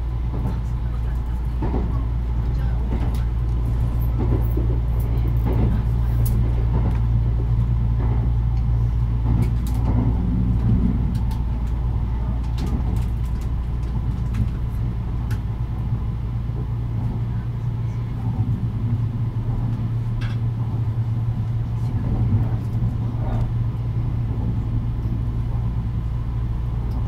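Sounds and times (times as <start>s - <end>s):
train running hum and rumble: 0.0s - 27.0s.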